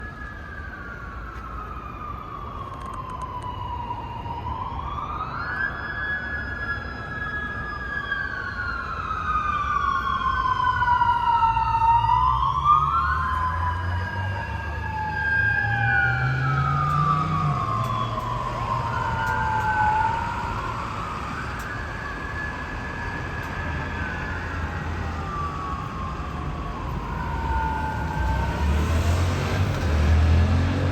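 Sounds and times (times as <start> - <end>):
police motorcycle sirens wailing: 0.0 - 30.9.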